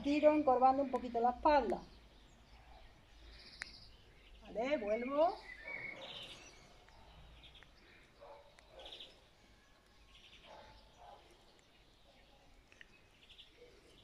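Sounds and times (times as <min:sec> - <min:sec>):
faint bird chirps: 0:01.8 - 0:14.0.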